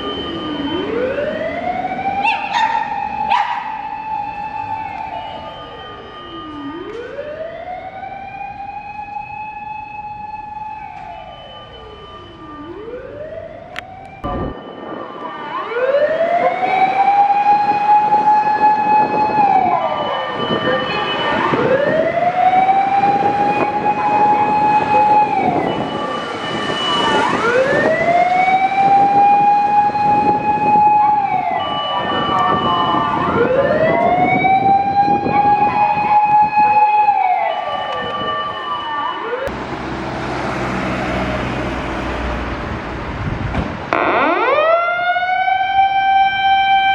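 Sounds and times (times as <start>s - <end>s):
fire engine siren wailing: 0.0s - 46.9s.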